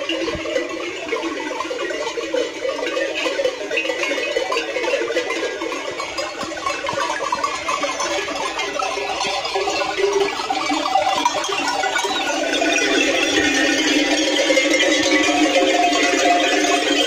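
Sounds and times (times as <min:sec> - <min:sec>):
neck bells ringing: 0:00.0 - 0:17.0.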